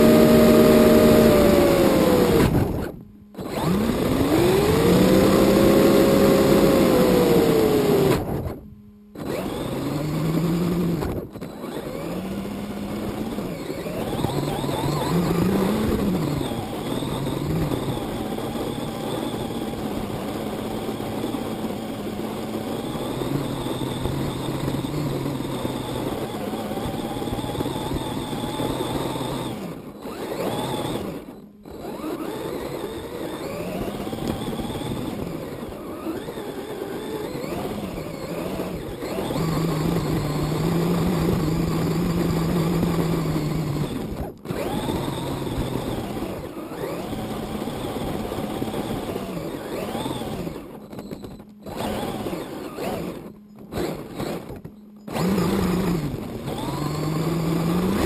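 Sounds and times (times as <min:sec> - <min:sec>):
toy car motor and gear whine: 0:00.0 - 0:58.0.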